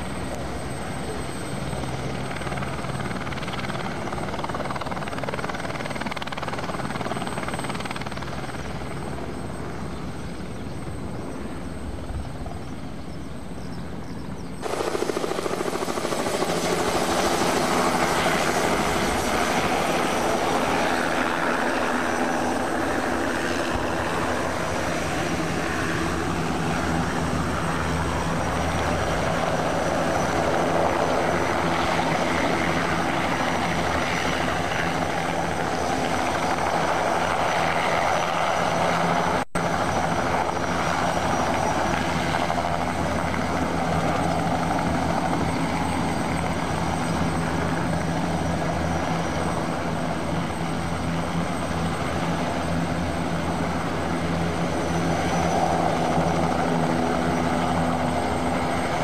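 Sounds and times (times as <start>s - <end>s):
helicopter hovering: 0.0s - 59.0s.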